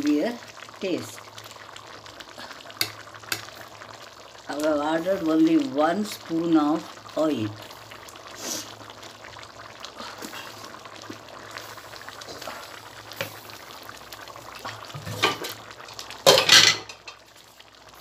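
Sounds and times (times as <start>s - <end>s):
gravy bubbling in a pot: 0.0s - 18.0s.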